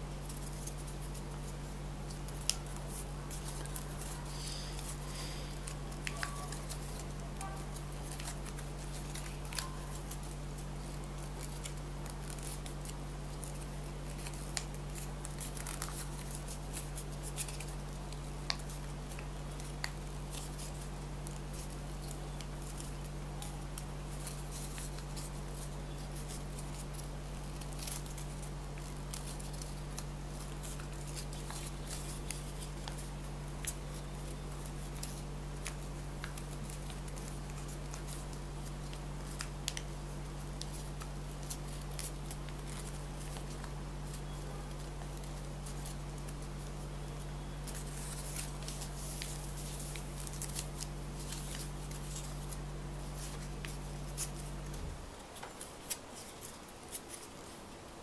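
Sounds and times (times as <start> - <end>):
steady low hum: 0.0 - 58.0
paper crackling: 0.1 - 58.0.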